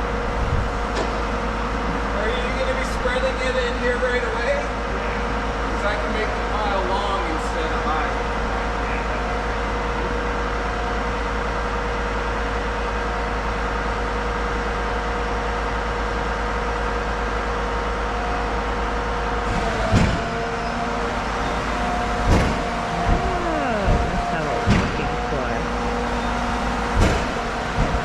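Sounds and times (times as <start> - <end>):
large diesel engine running: 0.0 - 14.0, 17.2 - 28.0.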